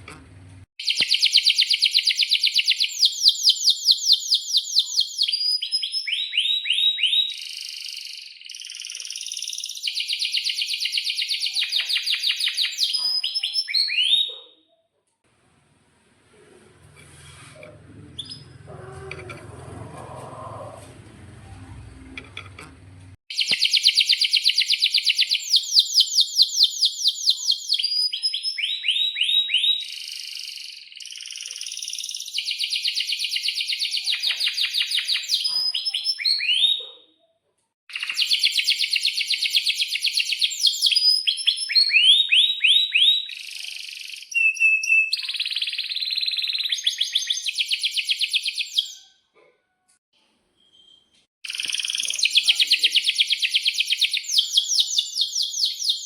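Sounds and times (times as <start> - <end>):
canary trilling song: 0.8 - 14.8, 18.2 - 20.7, 23.3 - 37.1, 37.9 - 49.2, 50.6 - 56.0.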